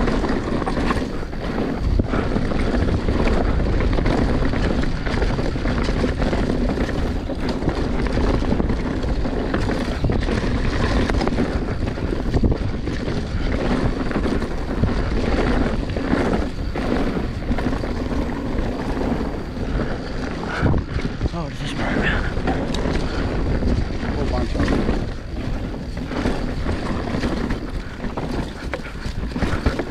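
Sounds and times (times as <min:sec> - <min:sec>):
bike rattles and knocks: 0:00.0 - 0:29.9
bike rumbling on dirt trail: 0:00.0 - 0:29.9
wind on microphone: 0:00.0 - 0:29.9.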